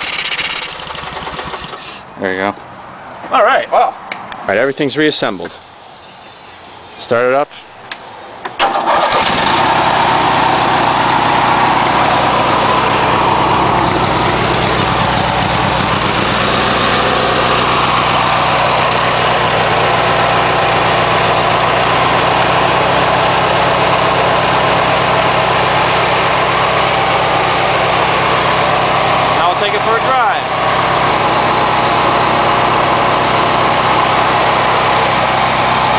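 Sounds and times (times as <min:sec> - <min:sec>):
lawn tractor engine idling: 0:00.0 - 0:02.1, 0:08.5 - 0:35.9.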